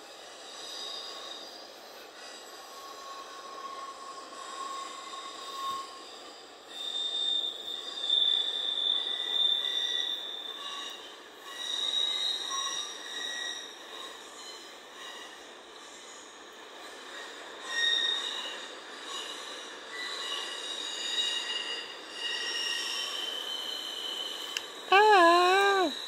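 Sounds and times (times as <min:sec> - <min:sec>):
train wheels squealing: 0:00.0 - 0:26.0.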